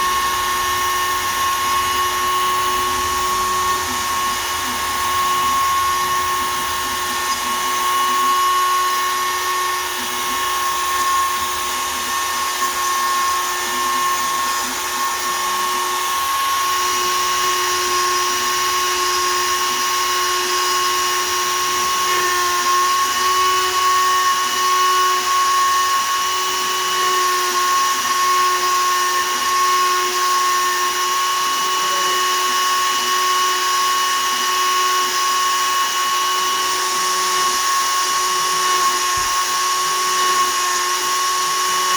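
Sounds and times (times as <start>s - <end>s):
router spindle high whine: 0.0s - 41.9s.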